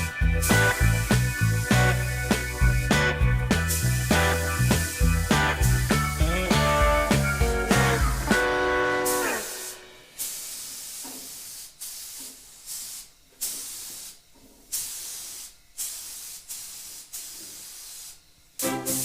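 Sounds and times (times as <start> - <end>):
spray gun hissing in bursts: 0.0 - 19.0.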